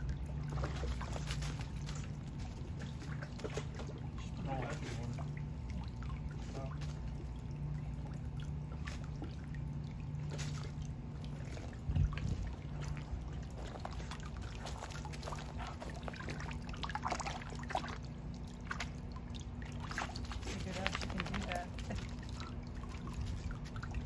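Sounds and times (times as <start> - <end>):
dog splashing water: 0.0 - 24.0
steady low hum: 0.0 - 24.0.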